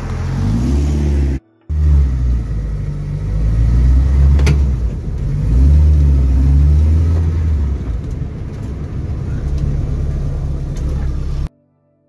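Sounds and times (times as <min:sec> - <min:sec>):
car engine droning: 0:00.0 - 0:11.5.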